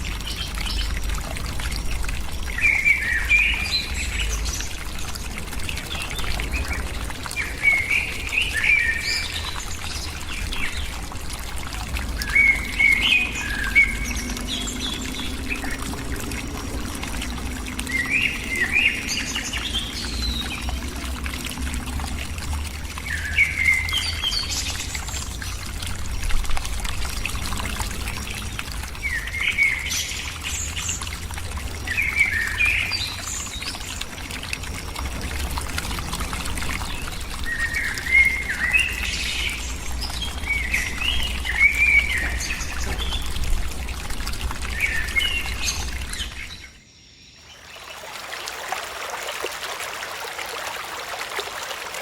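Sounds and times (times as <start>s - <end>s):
trickle of running water: 0.0s - 52.0s.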